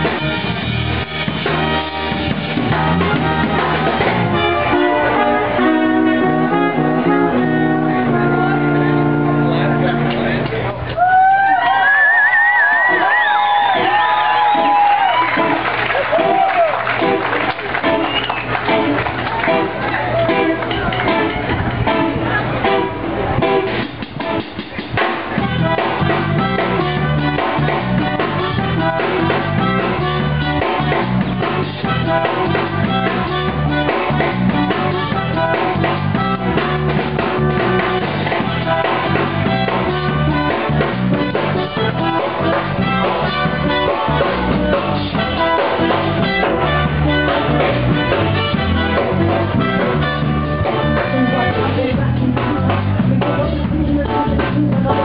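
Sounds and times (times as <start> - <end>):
drums: 0.0 - 55.0
guitar: 0.0 - 55.0.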